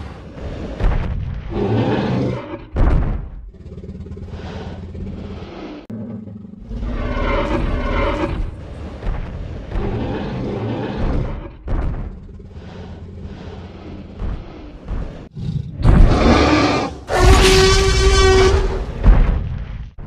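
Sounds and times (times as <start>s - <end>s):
dinosaur roar: 0.0s - 2.7s, 3.5s - 19.0s.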